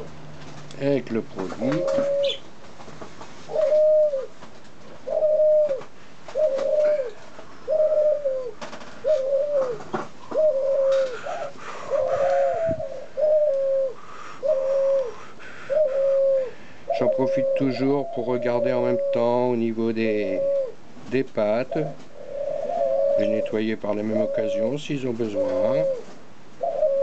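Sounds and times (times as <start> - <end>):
doves cooing: 0.0 - 27.0.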